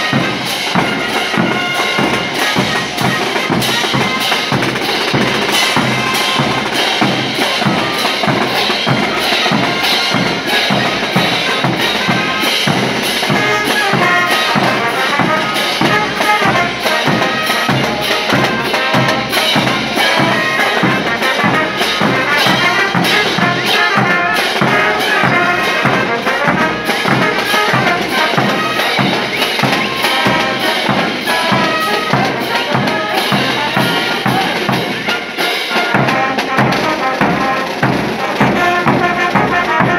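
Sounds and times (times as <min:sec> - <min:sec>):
brass horns melody: 0:00.0 - 0:39.9
snare drum marching beat: 0:00.0 - 0:39.9.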